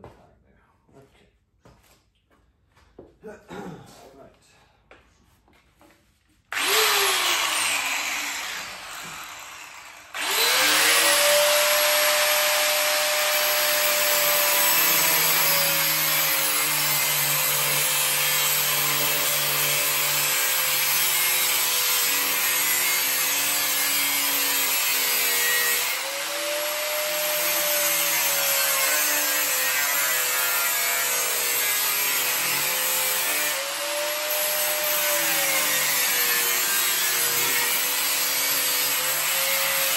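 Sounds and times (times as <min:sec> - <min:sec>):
angle grinder on metal: 0:06.5 - 0:39.9.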